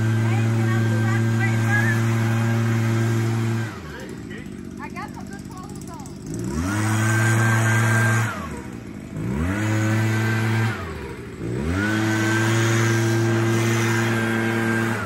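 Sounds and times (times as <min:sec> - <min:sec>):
leaf blower whirring: 0:00.0 - 0:15.0.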